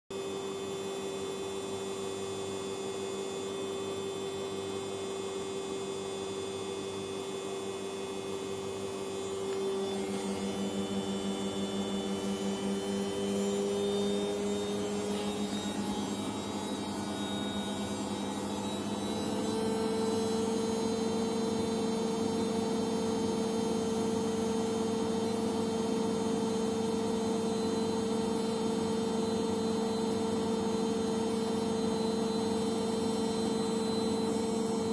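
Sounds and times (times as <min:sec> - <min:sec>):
washing machine spinning: 0:00.1 - 0:34.9.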